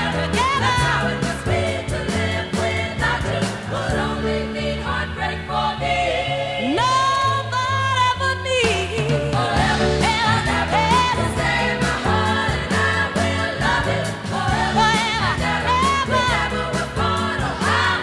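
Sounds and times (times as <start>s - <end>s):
pop song with singing: 0.0s - 18.0s.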